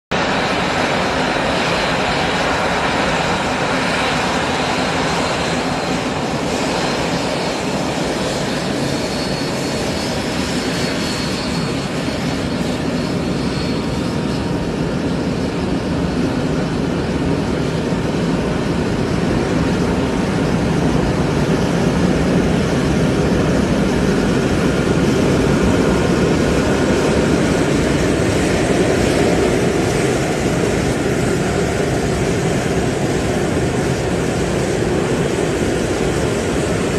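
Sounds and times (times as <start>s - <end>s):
jet engines running: 0.1s - 36.9s.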